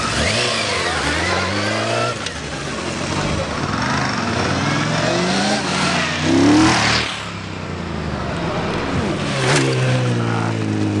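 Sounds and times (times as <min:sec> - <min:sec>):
motorcycles accelerating past: 0:00.0 - 0:11.0.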